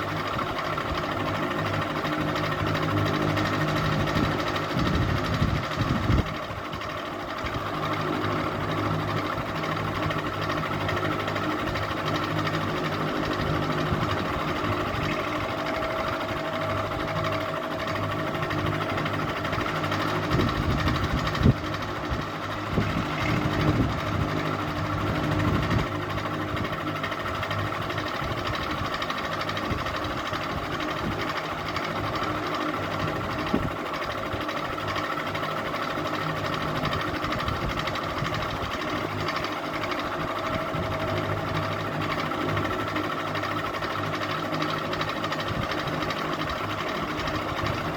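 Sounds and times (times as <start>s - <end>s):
ceiling fan motor hum: 0.0s - 47.9s.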